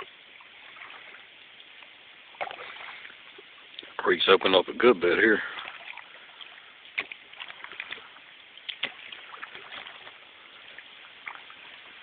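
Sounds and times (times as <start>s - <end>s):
paddle splashes and drips: 0.0s - 12.0s.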